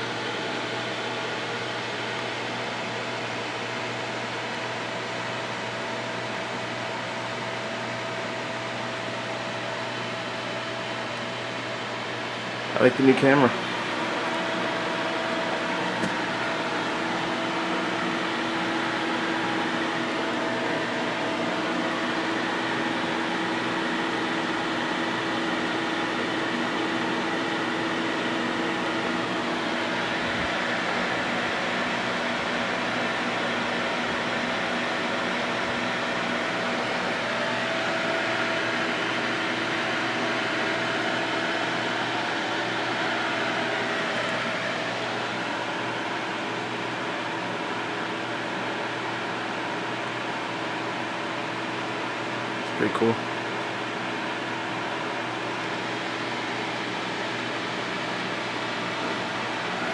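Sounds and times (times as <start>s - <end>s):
fans whirring: 0.0s - 59.9s
steady hum: 0.0s - 59.9s.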